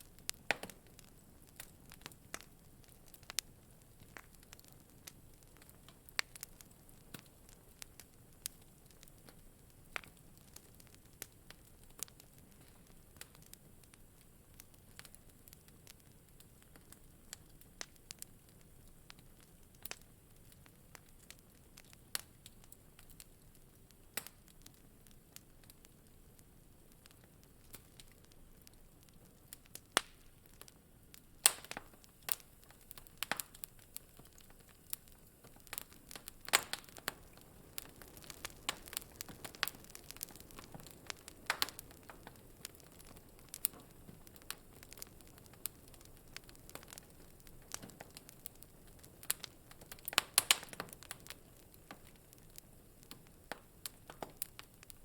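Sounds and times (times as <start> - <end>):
faint low hiss: 0.0 - 55.0
wood fire popping and snapping: 0.0 - 55.0.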